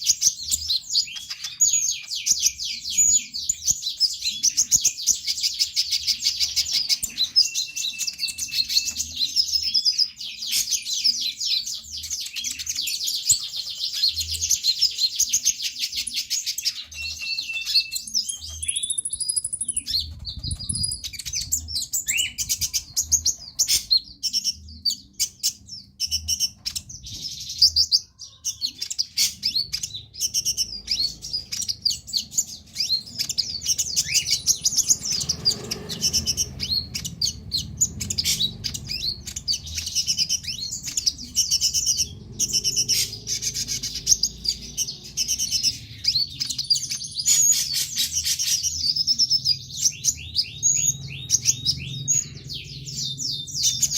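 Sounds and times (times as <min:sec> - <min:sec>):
sunbird chattering song: 0:00.0 - 0:53.9
whistled bird notes: 0:00.0 - 0:53.9.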